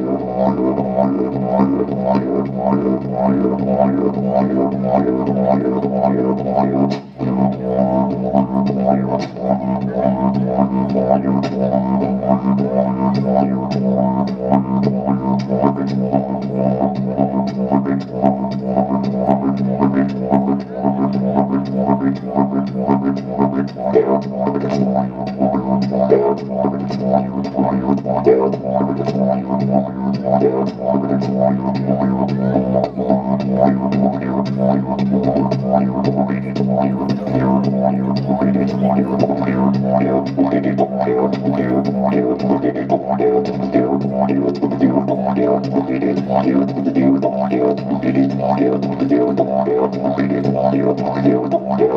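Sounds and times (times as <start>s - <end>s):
low droning instrument: 0.0s - 51.2s
fast rhythmic pulsing: 0.0s - 51.9s.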